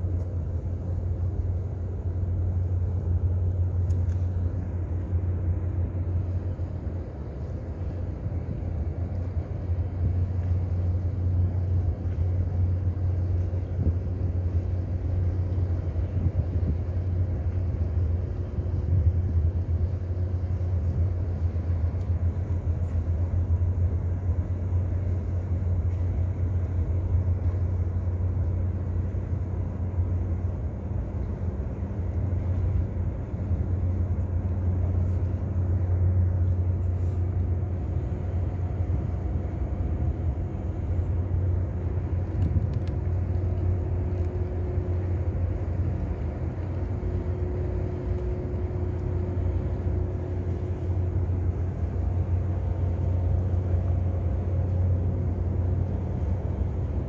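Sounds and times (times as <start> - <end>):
faint hum of steady tones: 0.0 - 57.0
ship engine deep rumble: 0.0 - 57.0.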